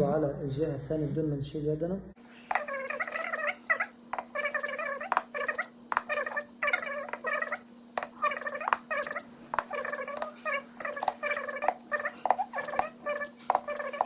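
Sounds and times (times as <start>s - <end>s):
faint steady hum: 2.1s - 14.0s
finger tapping on chest: 2.5s - 14.0s.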